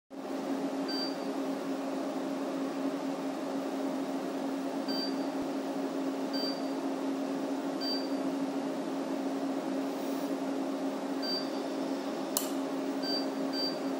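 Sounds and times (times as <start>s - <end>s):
laser unit humming: 0.2s - 13.9s.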